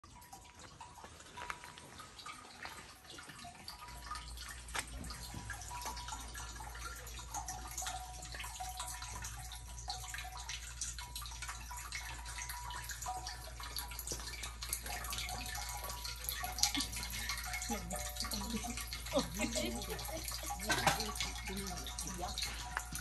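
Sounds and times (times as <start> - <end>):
water trickling and dripping: 0.0 - 23.0.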